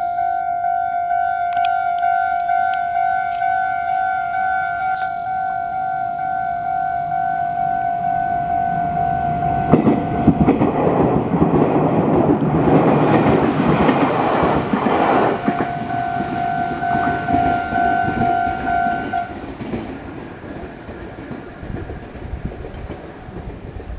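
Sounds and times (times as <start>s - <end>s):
crossing warning bell ringing: 0.0s - 21.3s
train wheels clacking over rail joints: 2.4s - 23.9s.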